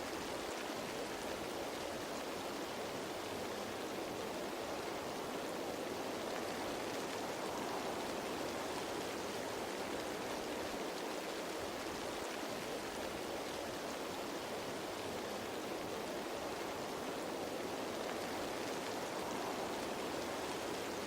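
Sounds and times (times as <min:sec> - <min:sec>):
rain falling on leaves: 0:00.0 - 0:21.0.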